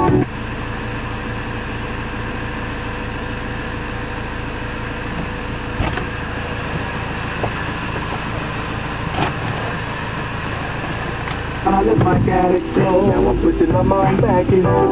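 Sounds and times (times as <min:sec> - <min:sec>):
car cabin hum: 0:00.0 - 0:14.9.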